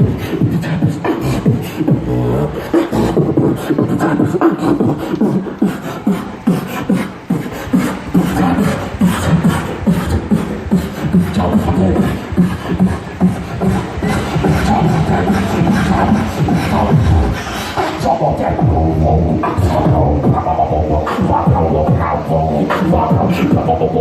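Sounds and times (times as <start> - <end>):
beatboxing: 0.0 - 24.0.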